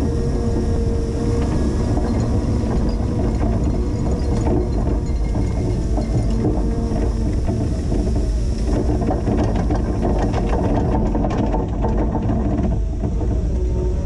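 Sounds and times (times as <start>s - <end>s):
forklift engine running: 0.0s - 14.0s
rapid rattling clatter: 1.3s - 13.6s.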